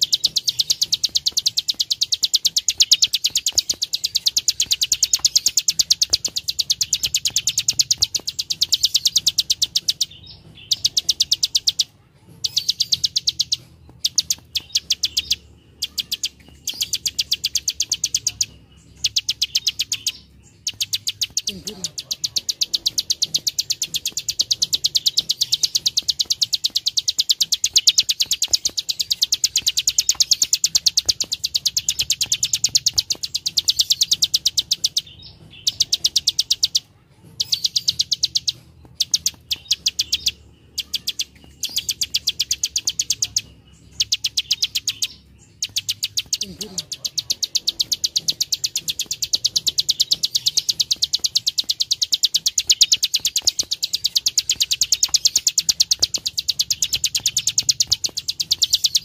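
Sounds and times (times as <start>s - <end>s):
bird clicking song: 0.0s - 59.0s.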